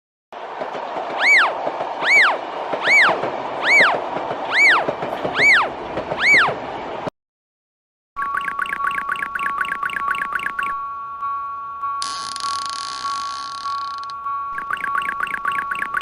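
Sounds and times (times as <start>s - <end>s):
rising and falling warning tone: 1.1s - 6.6s, 8.2s - 16.0s.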